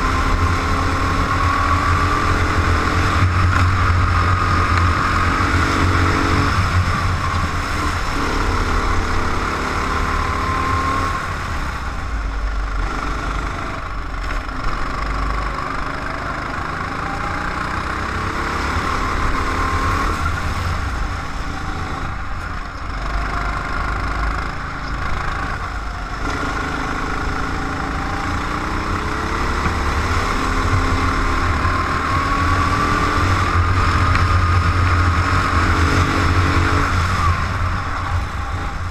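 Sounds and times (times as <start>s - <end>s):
go-kart engine: 0.0s - 38.9s.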